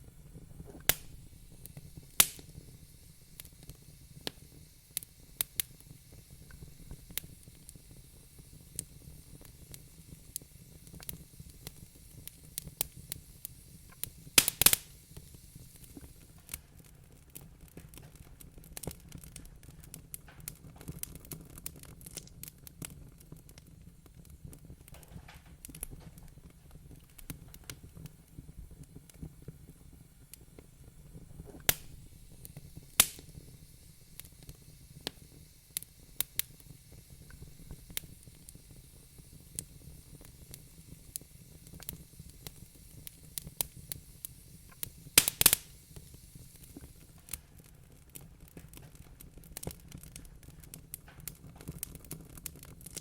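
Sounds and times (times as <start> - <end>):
low steady fire rumble: 0.0 - 53.0
wood fire crackling and popping: 0.0 - 53.0.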